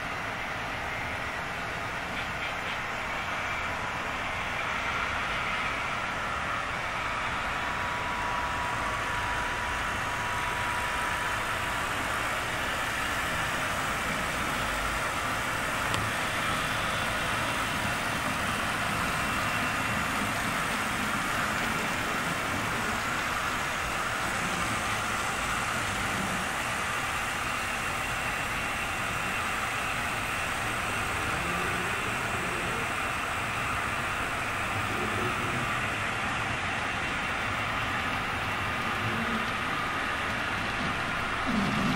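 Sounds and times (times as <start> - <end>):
model train motor humming: 0.0 - 41.9.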